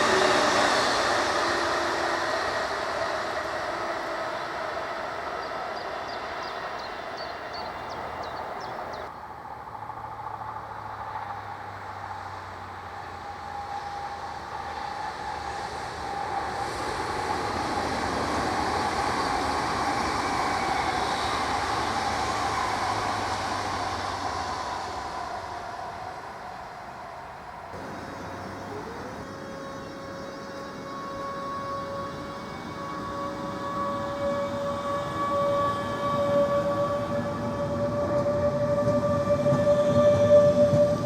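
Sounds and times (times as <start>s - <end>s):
electric train whine and hum: 0.0s - 41.0s.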